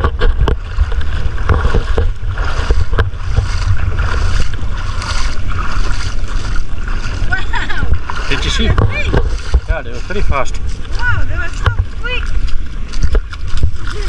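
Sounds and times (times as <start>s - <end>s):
surf washing on shore: 0.0s - 14.0s
wind buffeting microphone: 0.0s - 14.0s.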